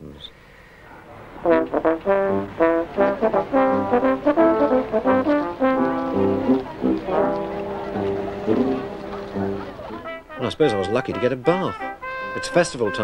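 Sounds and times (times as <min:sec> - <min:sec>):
brass instruments playing: 0:01.1 - 0:13.0.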